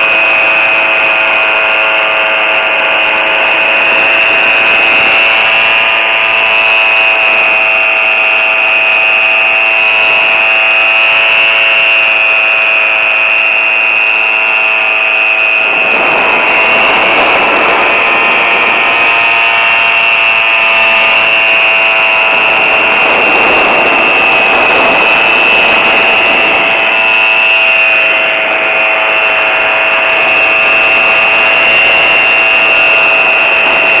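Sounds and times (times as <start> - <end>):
engine and propeller drone: 0.0 - 34.0
wind rushing over microphone: 0.0 - 34.0.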